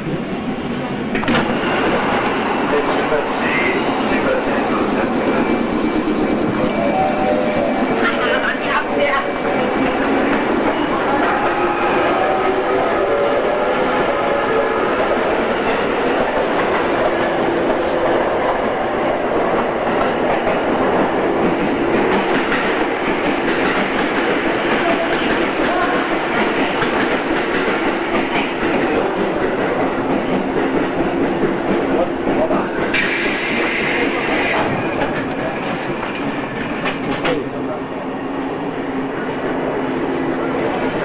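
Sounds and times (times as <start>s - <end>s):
rail-joint clickety-clack: 0.0s - 41.0s
train rolling noise: 0.0s - 41.0s.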